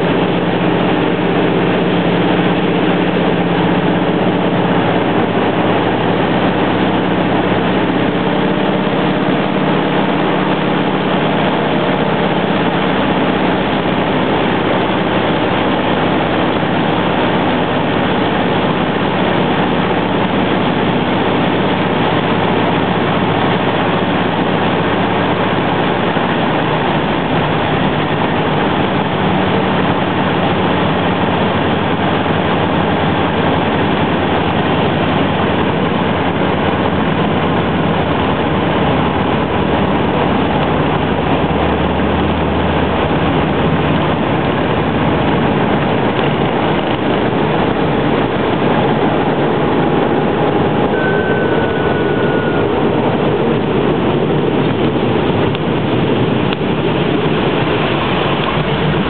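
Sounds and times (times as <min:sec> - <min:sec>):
floatplane engine and propeller: 0:00.0 - 0:59.0.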